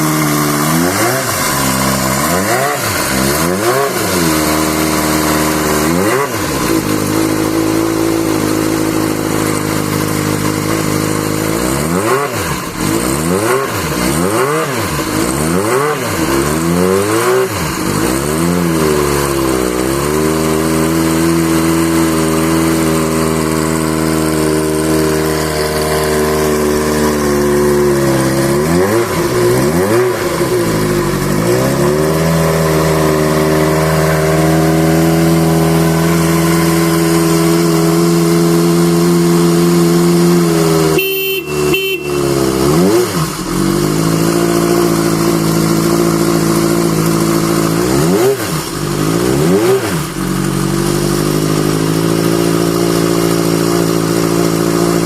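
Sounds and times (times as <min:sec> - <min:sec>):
motorcycle engine idling: 0:00.0 - 0:12.0, 0:16.2 - 0:55.0.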